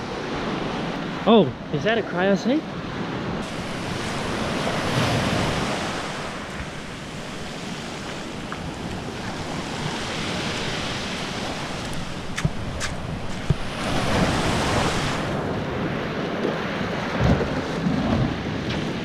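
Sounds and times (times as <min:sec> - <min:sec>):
sea surf breaking: 0:00.0 - 0:19.0
wind buffeting microphone: 0:02.7 - 0:19.0.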